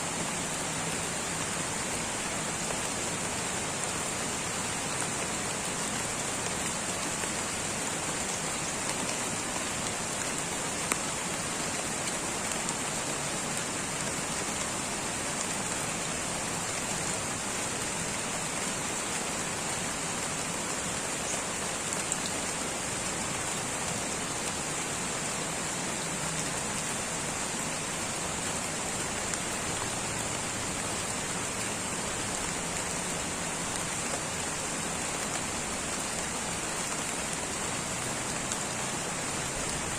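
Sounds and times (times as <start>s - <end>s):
light rain on foliage: 0.0s - 39.9s.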